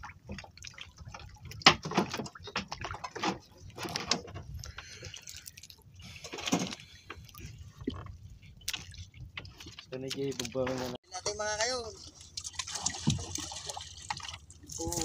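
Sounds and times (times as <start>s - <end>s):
knocks and rustles in boat: 0.0s - 5.0s, 6.0s - 11.0s, 11.9s - 15.0s
water splashing and dripping: 0.0s - 10.6s, 11.8s - 15.0s.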